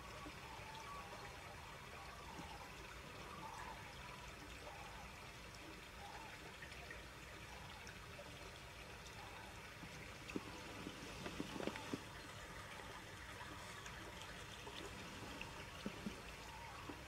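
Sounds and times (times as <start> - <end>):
small stream running: 0.0 - 17.0.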